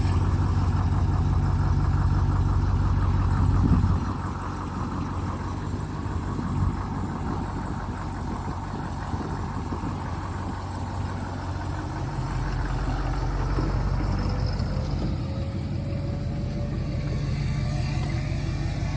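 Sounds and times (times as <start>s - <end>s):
pickup truck engine idling: 0.0s - 18.9s.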